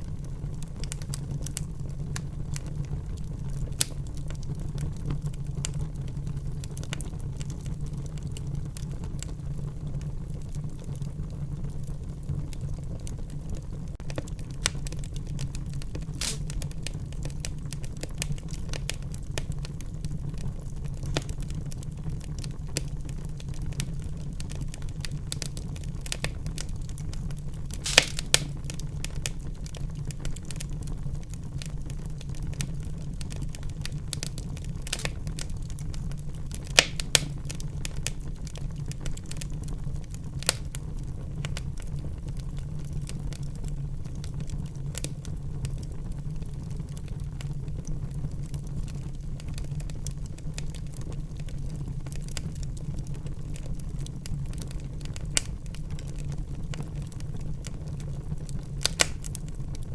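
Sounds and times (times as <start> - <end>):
wood fire crackling in fireplace: 0.0 - 59.9.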